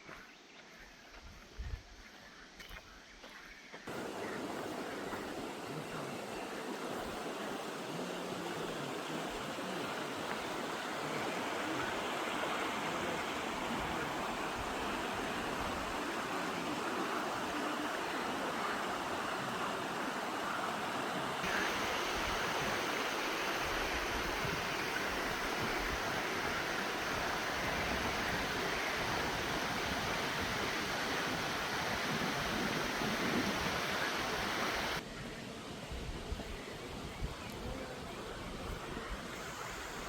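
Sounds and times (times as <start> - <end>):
stream water rushing: 3.9 - 40.0.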